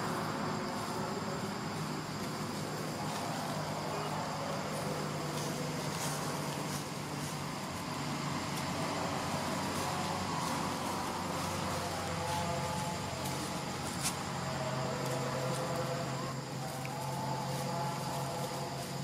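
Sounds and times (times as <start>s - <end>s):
high insect whine: 0.0s - 19.0s
low motor-like hum: 0.0s - 19.0s.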